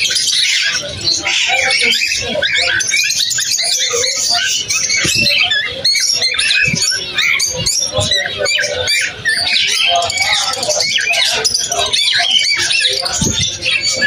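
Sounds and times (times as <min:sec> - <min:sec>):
finches chirping: 0:00.0 - 0:14.0.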